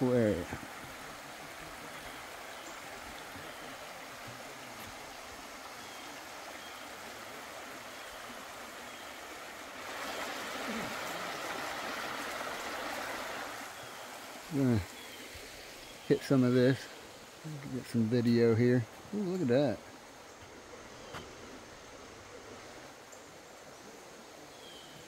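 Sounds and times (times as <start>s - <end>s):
creek running over rocks: 0.0s - 25.0s.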